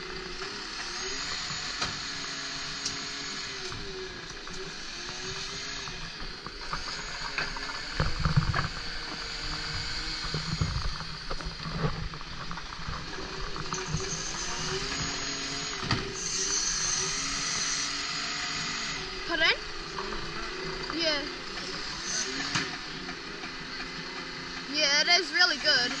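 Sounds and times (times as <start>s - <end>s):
hydraulic arm whine: 0.0s - 26.0s.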